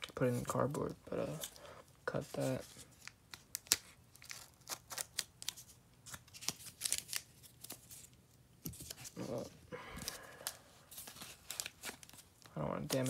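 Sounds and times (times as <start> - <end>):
cardboard and tape handling: 0.0 - 13.0.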